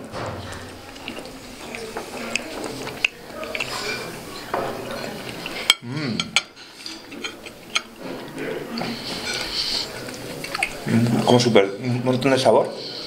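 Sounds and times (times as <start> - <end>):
cutlery clinking on plates: 0.0 - 10.8.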